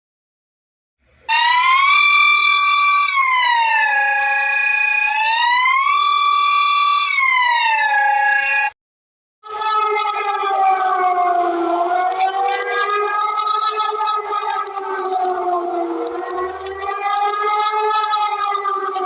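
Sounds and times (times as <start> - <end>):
synthetic siren wail: 1.2 - 8.8, 9.4 - 19.0.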